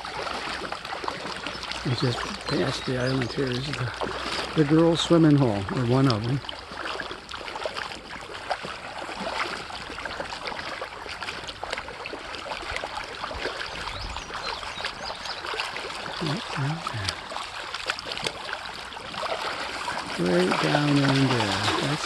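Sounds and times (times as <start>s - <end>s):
stream water trickling: 0.0s - 22.0s.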